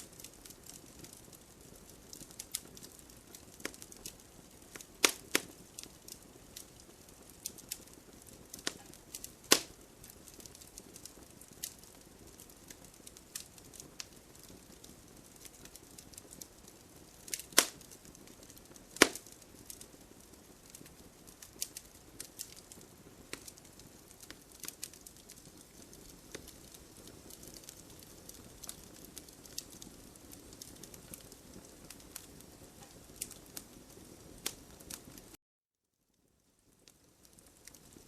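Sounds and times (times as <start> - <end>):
wood fire crackling: 0.0 - 35.4, 36.2 - 38.0.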